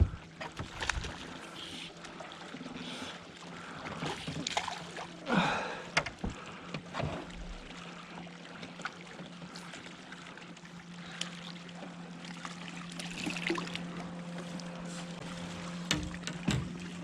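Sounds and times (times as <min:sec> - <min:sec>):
faint water sounds: 0:00.0 - 0:17.0
low hum: 0:00.0 - 0:17.0.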